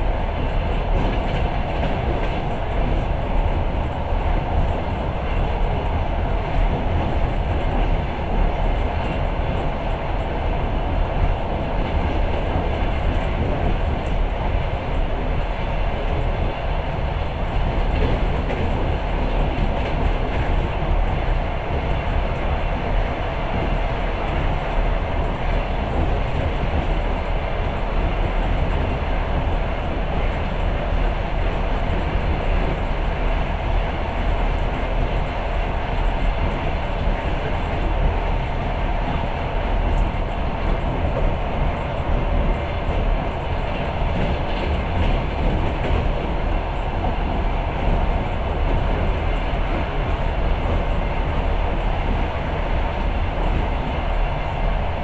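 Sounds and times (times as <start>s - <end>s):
train wheels on rail rumbling: 0.0s - 55.0s.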